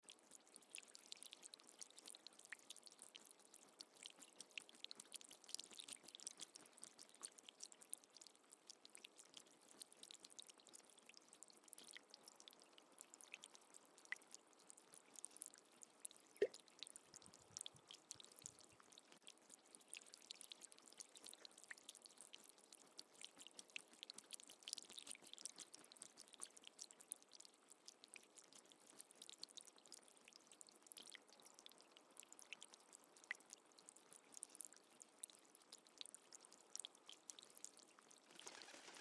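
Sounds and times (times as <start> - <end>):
water dripping: 0.0 - 39.0.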